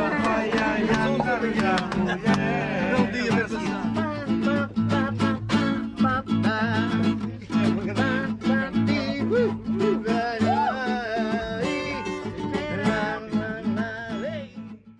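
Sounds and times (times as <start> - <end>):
acoustic guitar strumming: 0.0 - 14.9
man singing: 0.0 - 14.9.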